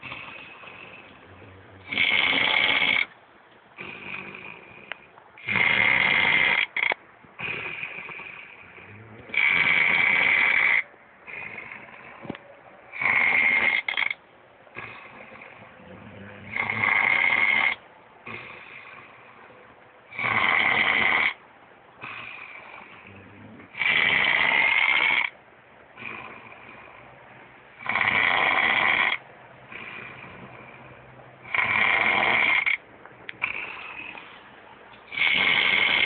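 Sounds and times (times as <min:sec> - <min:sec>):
dog snoring: 0:00.0 - 0:03.1, 0:03.8 - 0:19.4, 0:20.1 - 0:21.4, 0:22.0 - 0:25.4, 0:26.0 - 0:34.5, 0:35.1 - 0:36.0.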